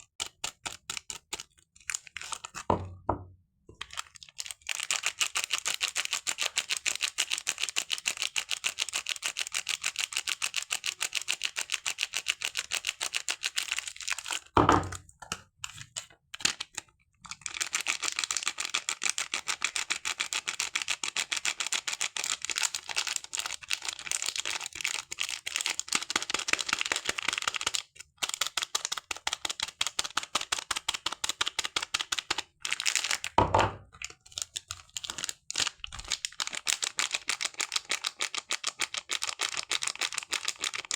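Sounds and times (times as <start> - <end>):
soap wrapping crackling: 0.2 - 2.7, 3.8 - 40.9.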